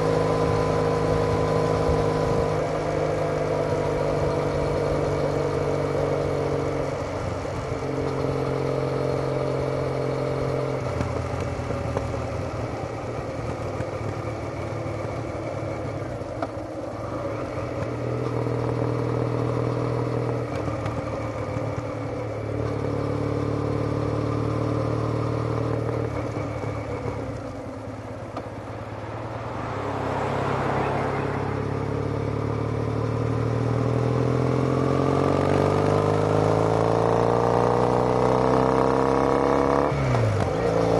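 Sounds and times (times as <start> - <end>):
motorcycle engine exhaust: 0.0 - 40.9.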